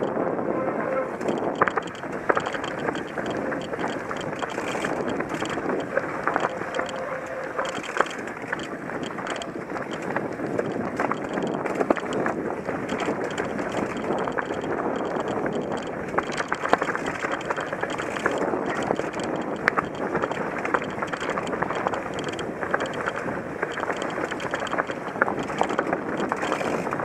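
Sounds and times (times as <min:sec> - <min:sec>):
bike rattling: 0:00.0 - 0:27.0
bike tyres on dirt trail: 0:01.2 - 0:27.0
sharp clicks and knocks: 0:01.2 - 0:27.0.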